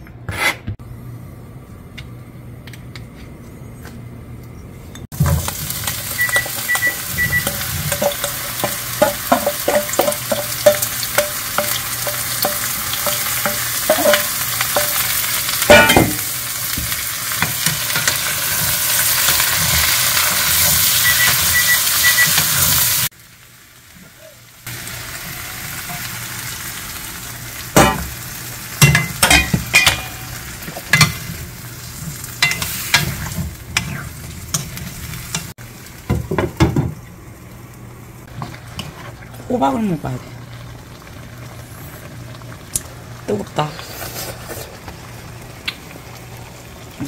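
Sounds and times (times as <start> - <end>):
vegetables sizzling in a frying pan: 5.1 - 47.0.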